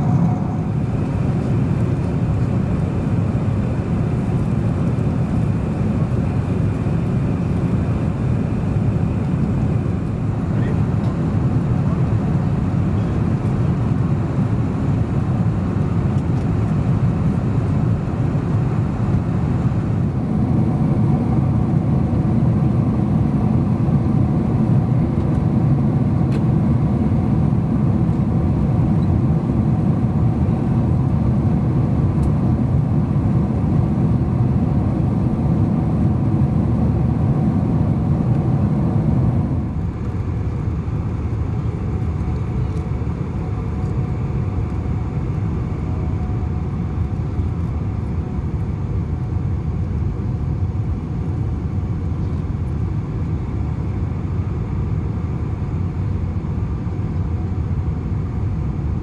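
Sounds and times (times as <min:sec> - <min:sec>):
airplane engines rumbling in cabin: 0:00.0 - 0:59.0.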